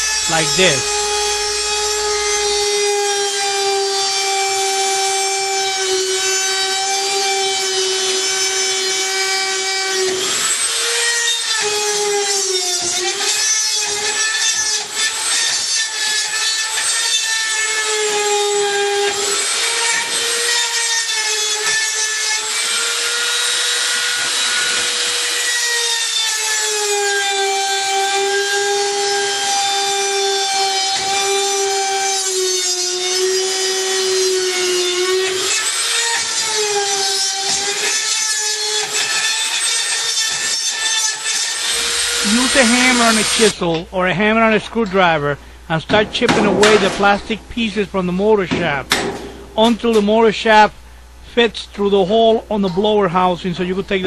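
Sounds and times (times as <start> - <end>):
rotary tool cutting plastic: 0.0 - 43.6.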